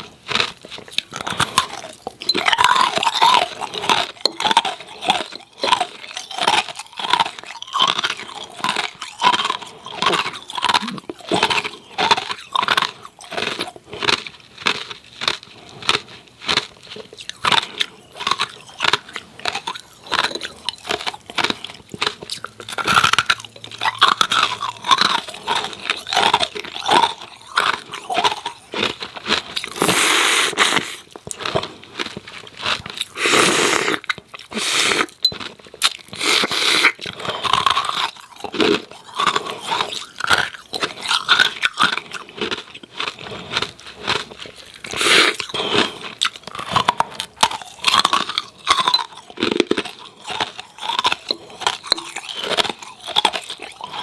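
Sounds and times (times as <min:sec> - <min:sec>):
ice cubes crunching in mouth: 0:00.0 - 0:54.0.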